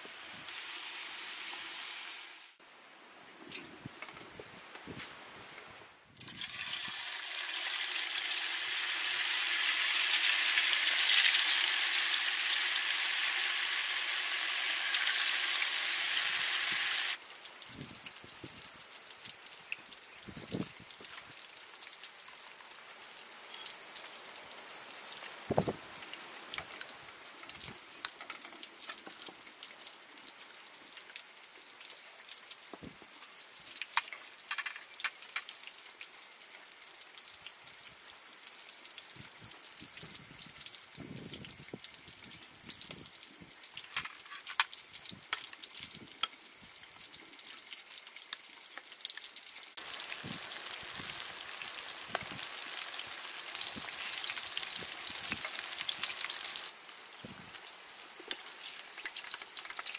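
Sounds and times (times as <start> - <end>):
tofu sizzling in hot oil: 0.0 - 2.6, 6.2 - 59.9
faint steady hiss: 0.0 - 59.9.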